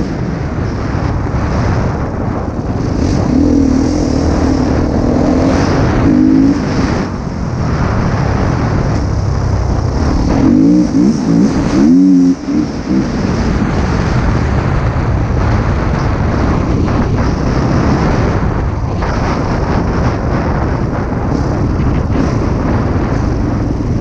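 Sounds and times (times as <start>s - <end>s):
motocross bike engine revving: 0.9s - 14.8s, 15.4s - 24.0s.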